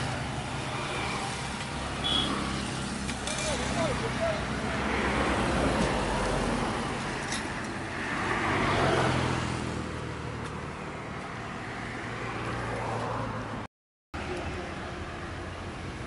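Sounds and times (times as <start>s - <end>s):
highway traffic passing: 0.0s - 16.0s.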